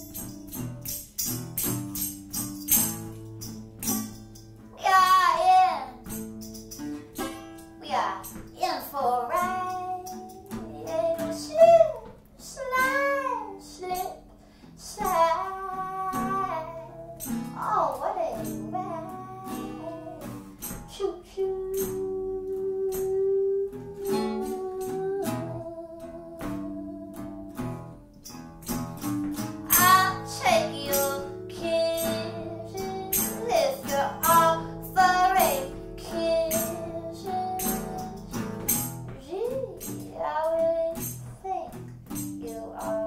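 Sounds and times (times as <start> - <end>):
woman singing: 0.0 - 1.0, 4.8 - 6.2, 7.8 - 27.9, 29.7 - 43.0
guitar strumming: 0.0 - 43.0.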